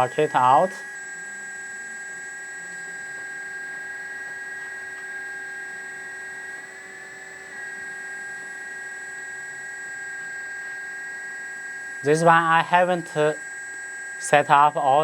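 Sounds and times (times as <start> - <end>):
hydraulic pump whine: 0.0 - 15.0.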